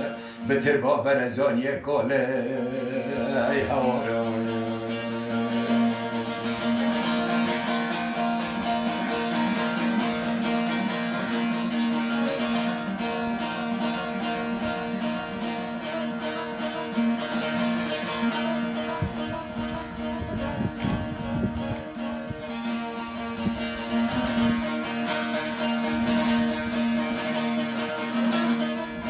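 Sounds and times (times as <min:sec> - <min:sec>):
plucked string instrument music: 0:00.0 - 0:29.0.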